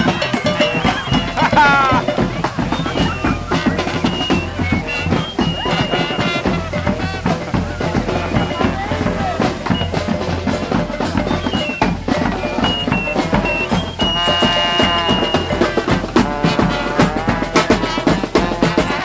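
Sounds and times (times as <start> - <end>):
brass band playing: 0.0 - 19.0
marching drum beat: 0.0 - 19.0.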